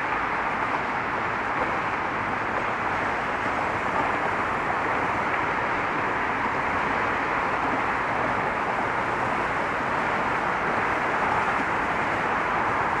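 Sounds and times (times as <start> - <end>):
car traffic on a bridge: 0.0 - 13.0.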